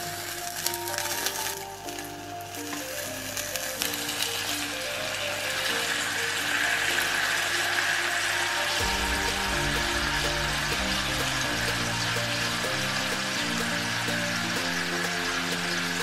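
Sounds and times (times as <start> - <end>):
gentle background music: 0.0 - 16.0.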